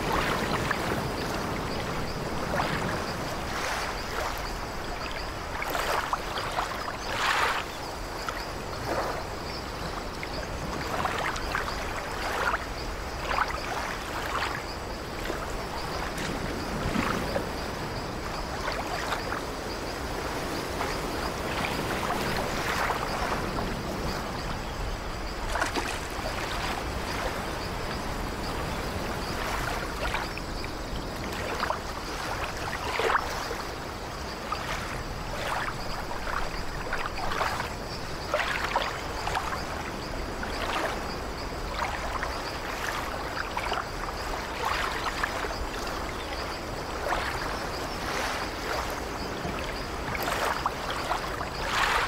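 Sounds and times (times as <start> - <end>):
gurgling splashes: 0.0 - 17.6, 20.6 - 52.0
sea water lapping in small waves: 0.0 - 52.0.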